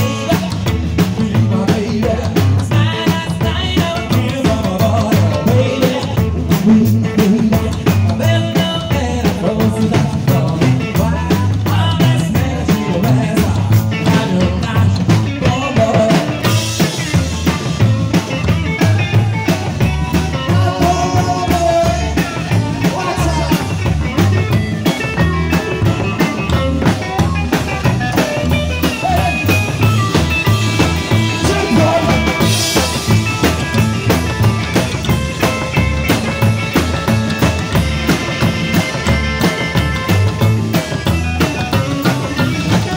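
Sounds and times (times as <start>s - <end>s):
drum kit: 0.0s - 42.9s
electric guitar: 0.0s - 42.9s
upright bass: 0.0s - 42.9s.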